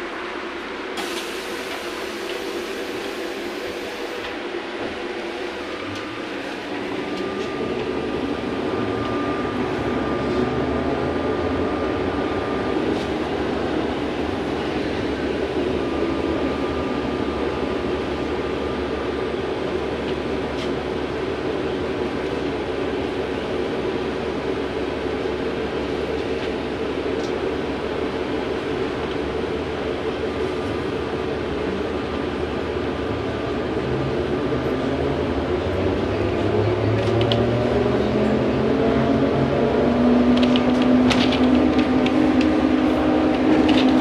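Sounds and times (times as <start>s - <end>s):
trolleybus drive and tyres rumble: 0.0s - 44.0s.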